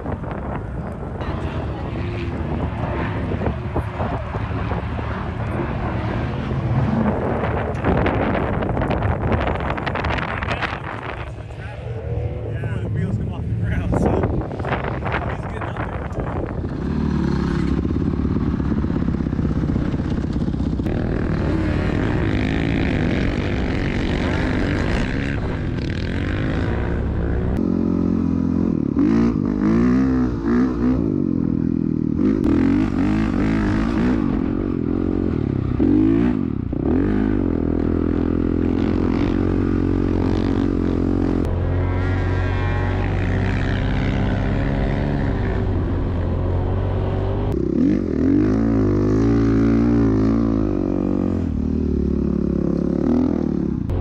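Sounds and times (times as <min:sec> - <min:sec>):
wind noise: 0:00.0 - 0:27.7, 0:28.6 - 0:51.6
dirt bike engine revving: 0:01.2 - 0:54.0.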